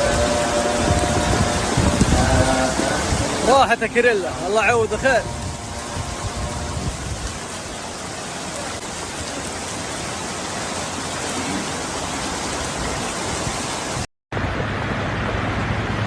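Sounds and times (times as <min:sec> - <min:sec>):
floodwater rushing: 0:00.0 - 0:16.0
heavy rain: 0:00.0 - 0:16.0.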